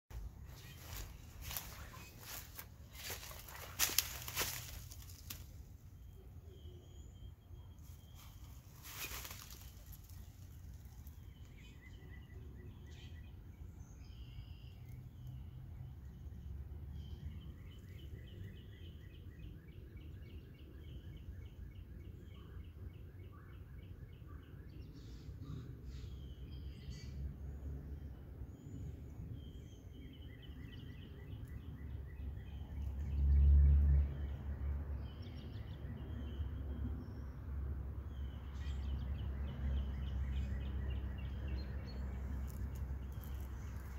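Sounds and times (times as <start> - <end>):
small birds chirping: 0.1 - 33.4, 38.1 - 43.9.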